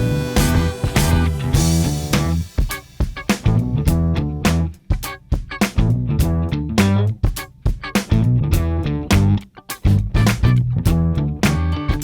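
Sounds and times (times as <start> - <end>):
electric guitar and bass music: 0.0 - 12.0.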